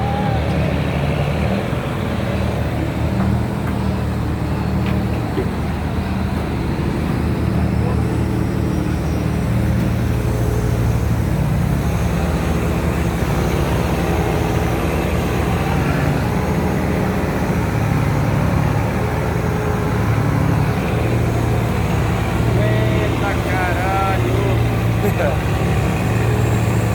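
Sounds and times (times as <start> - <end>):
boat engine running hard: 0.0 - 26.9.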